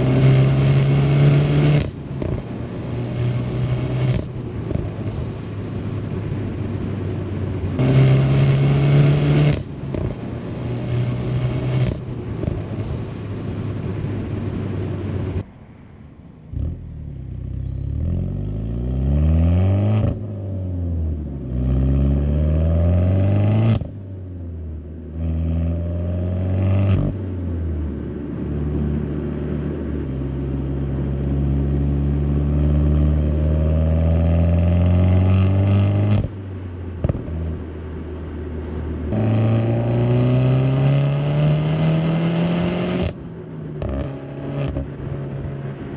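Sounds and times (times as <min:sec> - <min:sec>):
car engine and exhaust revving: 0:00.0 - 0:45.9
wind and road rush: 0:00.0 - 0:45.9.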